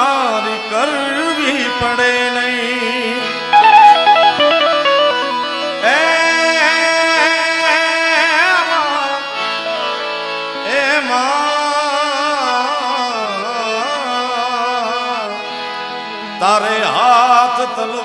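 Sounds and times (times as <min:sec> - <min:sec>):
man singing devotional song: 0:00.0 - 0:04.7, 0:05.5 - 0:18.0
instrumental accompaniment: 0:00.0 - 0:18.0.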